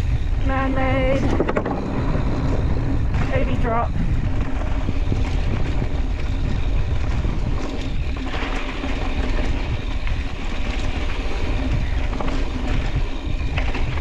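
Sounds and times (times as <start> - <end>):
bike rattles and clicks: 0.0 - 14.0
tyres rumbling on dirt: 0.0 - 14.0
wind buffeting microphone: 0.0 - 14.0.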